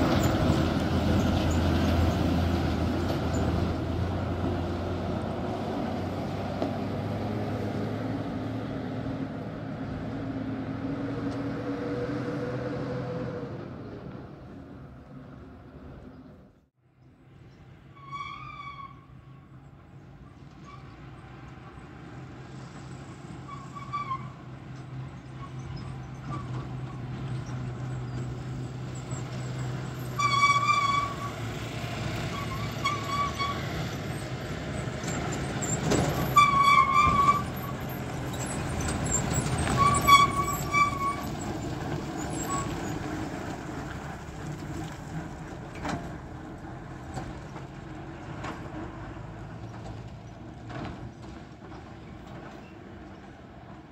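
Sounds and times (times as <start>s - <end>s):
bus diesel engine running: 0.0s - 11.4s, 19.1s - 53.9s.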